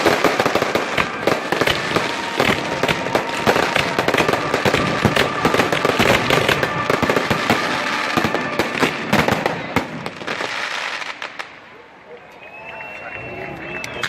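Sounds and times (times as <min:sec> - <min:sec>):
firecracker bangs and crackling: 0:00.0 - 0:11.6.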